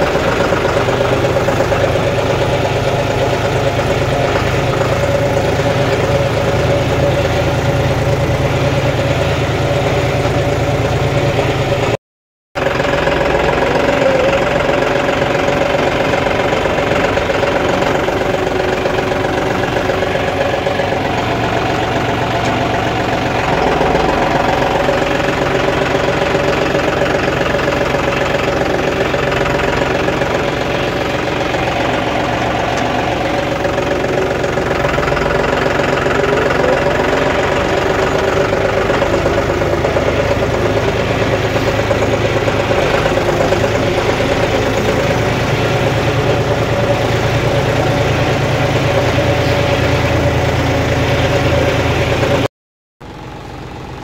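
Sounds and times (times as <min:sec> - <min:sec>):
tractor diesel engine running: 0:00.0 - 0:12.0, 0:12.6 - 0:54.0.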